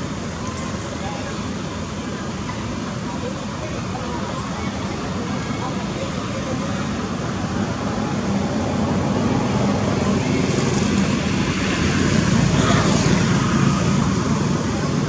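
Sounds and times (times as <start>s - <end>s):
motor vehicle traffic: 0.0s - 15.0s.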